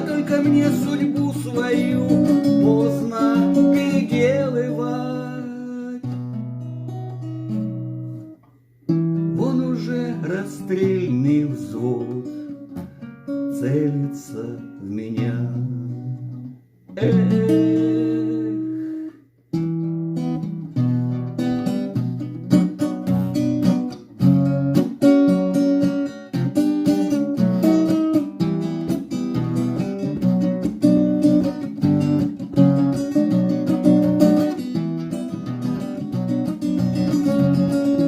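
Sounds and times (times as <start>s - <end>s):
acoustic guitar strumming chords: 0.0s - 38.0s.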